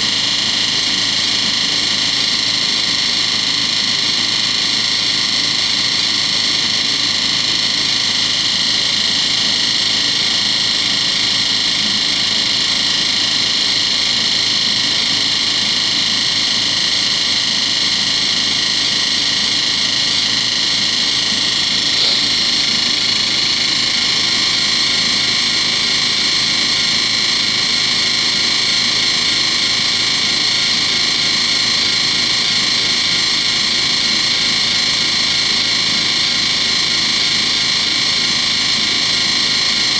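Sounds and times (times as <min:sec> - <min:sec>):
high-pitched whine: 0:00.0 - 0:39.8
washing machine spinning: 0:00.0 - 0:39.9.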